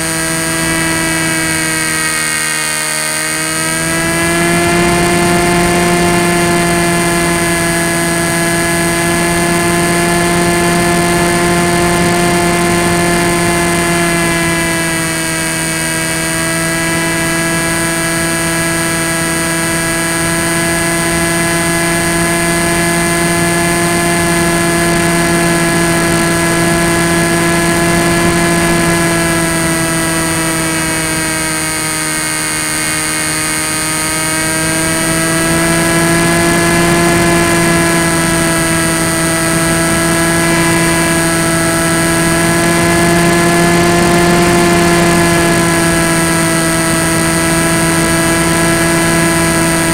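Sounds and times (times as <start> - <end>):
electric motor propeller whine: 0.0 - 49.9.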